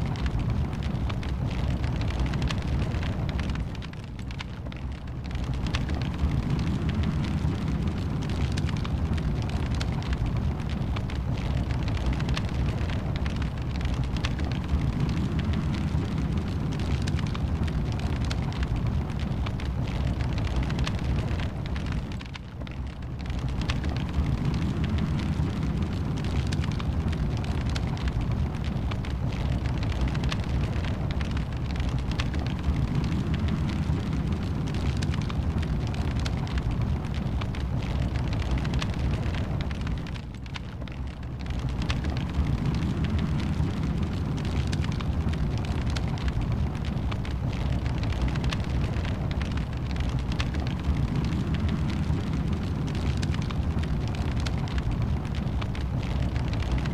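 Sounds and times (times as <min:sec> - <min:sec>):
low rumble of flames: 0:00.0 - 0:56.9
wood fire crackling and popping: 0:00.0 - 0:56.9.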